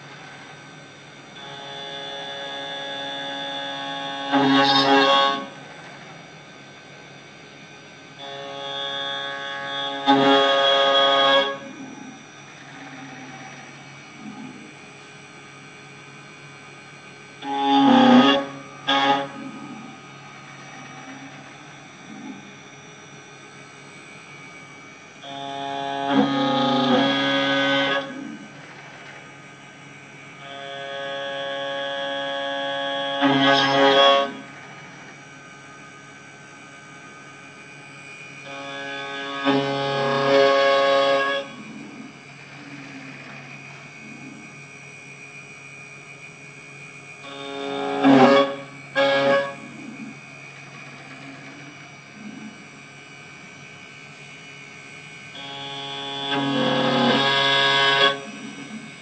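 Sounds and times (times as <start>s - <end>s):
engraving machine hum: 0.0s - 59.0s
loud steady machine tone: 0.0s - 59.0s.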